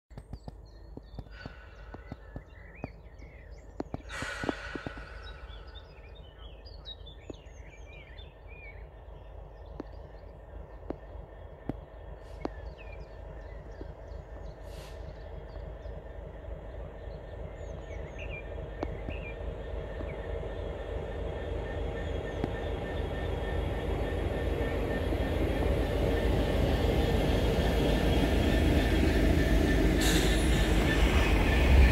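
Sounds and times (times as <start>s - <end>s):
birds chirping: 0.1s - 31.9s
train wheels on rails: 0.1s - 31.9s
diesel locomotive engine: 0.2s - 31.9s.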